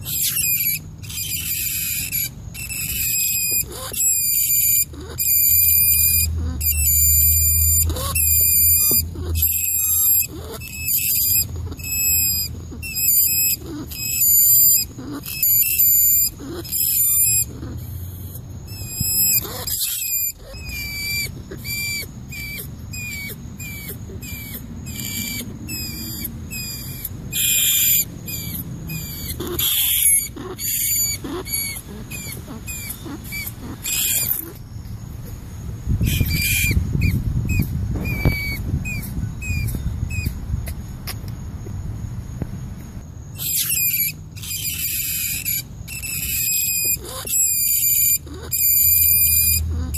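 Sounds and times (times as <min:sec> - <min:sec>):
rats squeaking: 0:00.0 - 0:35.0, 0:35.9 - 0:41.3, 0:43.3 - 0:49.9.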